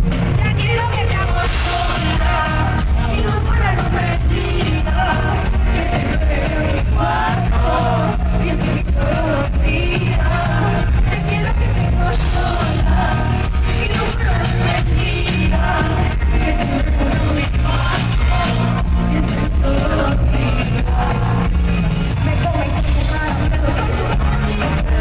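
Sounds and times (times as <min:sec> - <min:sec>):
heavy bass beat: 0:00.0 - 0:25.0
person singing: 0:00.0 - 0:25.0.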